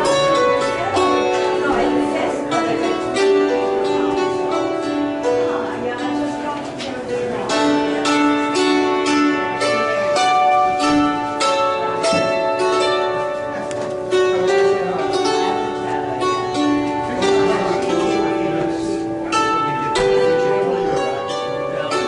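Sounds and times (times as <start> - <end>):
hammered dulcimer playing: 0.0 - 22.0.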